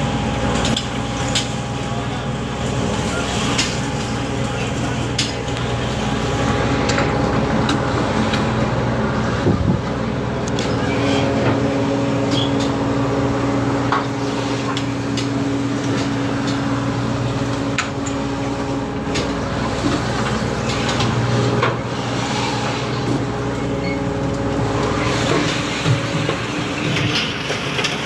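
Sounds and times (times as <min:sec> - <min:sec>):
ship machinery droning: 0:00.0 - 0:28.0.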